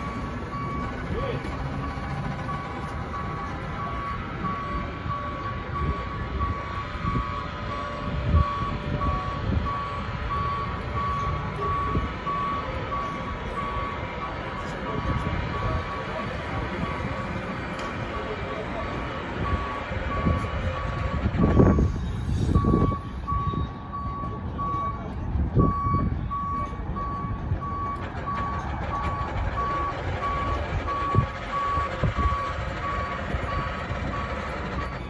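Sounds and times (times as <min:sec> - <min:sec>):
city traffic rumble: 0:00.0 - 0:35.0
reversing alarm beeping: 0:00.0 - 0:35.0.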